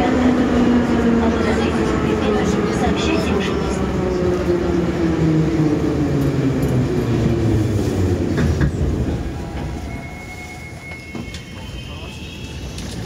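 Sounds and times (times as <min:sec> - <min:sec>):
train running noise: 0:00.0 - 0:13.0
metro train braking whine: 0:00.4 - 0:13.0.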